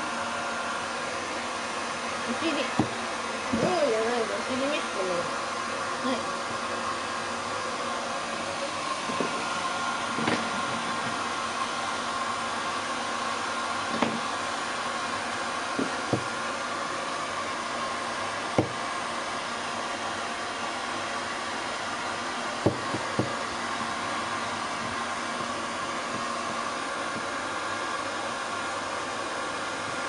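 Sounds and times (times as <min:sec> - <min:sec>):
hair dryer blowing: 0:00.0 - 0:30.0.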